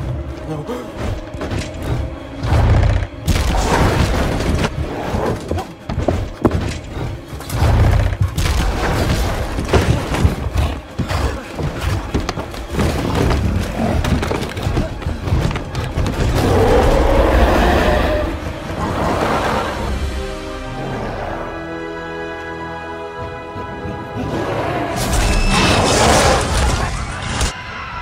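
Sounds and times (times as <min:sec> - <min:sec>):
music: 0:00.0 - 0:28.0.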